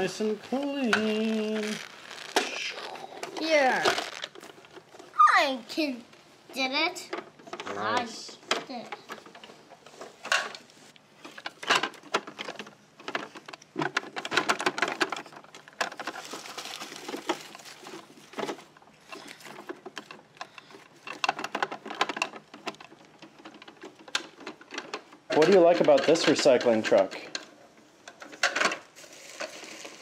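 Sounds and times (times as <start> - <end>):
plastic toys clattering: 0.0 - 5.5, 6.6 - 30.0.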